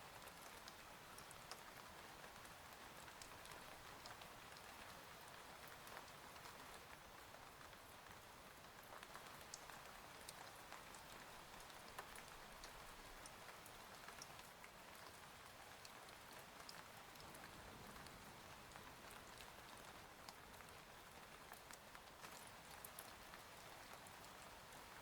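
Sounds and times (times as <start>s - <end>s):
faint steady rain: 0.0s - 25.0s.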